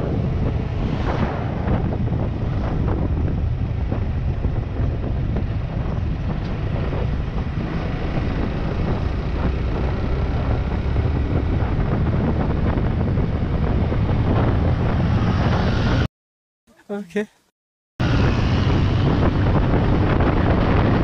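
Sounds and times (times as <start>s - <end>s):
motorcycle engine and road rumble: 0.0s - 16.1s, 18.0s - 21.0s
wind rushing over microphone: 0.0s - 16.1s, 18.0s - 21.0s.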